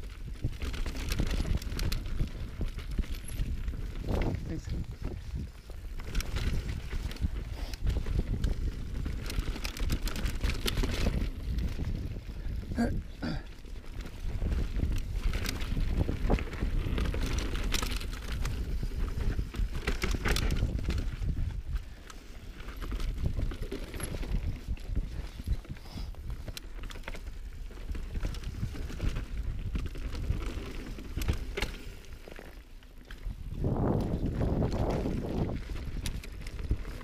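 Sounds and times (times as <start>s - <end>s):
bike clattering and rattling: 0.0s - 37.0s
bike tyres rolling over rocks: 0.0s - 37.0s
wind rumble on microphone: 0.0s - 37.0s.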